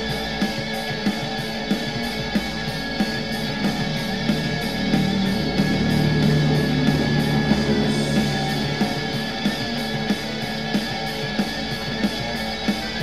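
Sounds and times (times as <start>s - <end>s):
rock music with guitar and drums: 0.0s - 13.0s.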